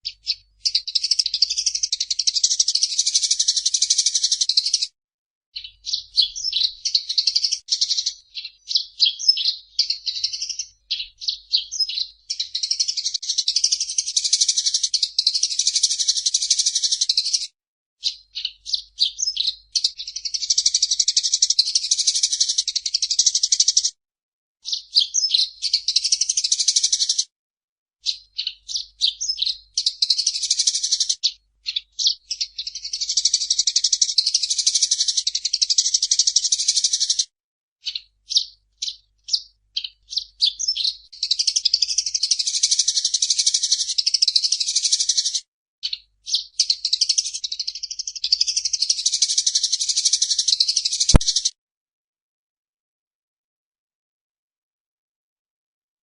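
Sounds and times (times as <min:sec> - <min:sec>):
sparrow chirping and trilling: 0:00.0 - 0:05.0, 0:05.6 - 0:24.0, 0:24.6 - 0:27.3, 0:28.0 - 0:51.5.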